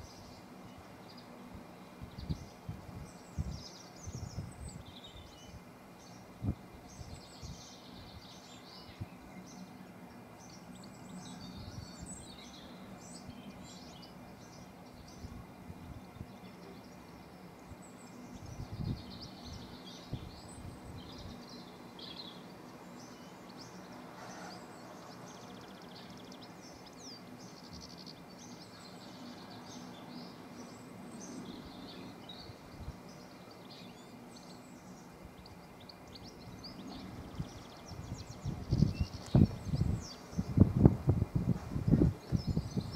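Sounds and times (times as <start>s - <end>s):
songbirds chirping and singing: 0.0s - 42.9s.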